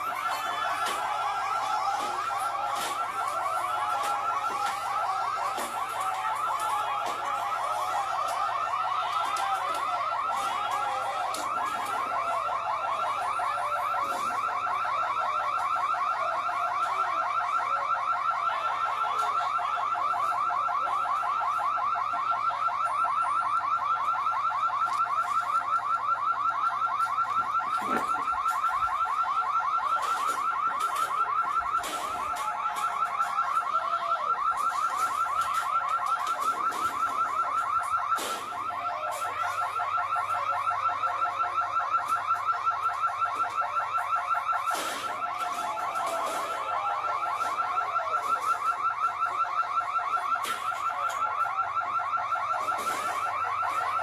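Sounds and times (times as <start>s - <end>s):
electronic alarm pulsing tone: 0.0s - 54.0s.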